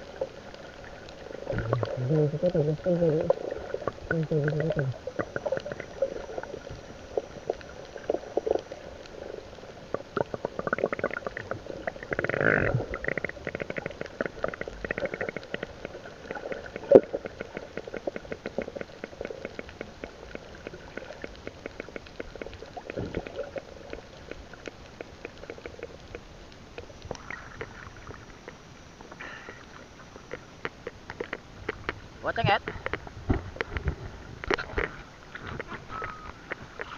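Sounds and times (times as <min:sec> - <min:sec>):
fine crackle of small clicks: 0:00.0 - 0:36.9
underwater sloshing and gurgling: 0:00.0 - 0:36.9.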